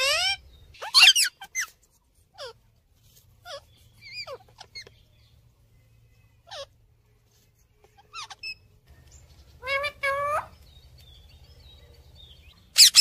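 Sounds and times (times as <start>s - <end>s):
parakeets calling: 0.0s - 2.6s, 3.4s - 5.4s, 6.2s - 6.9s, 7.8s - 13.0s.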